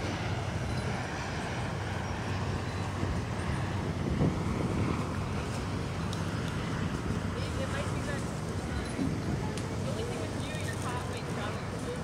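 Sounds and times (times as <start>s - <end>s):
turboprop airliner engines droning: 0.0s - 12.0s.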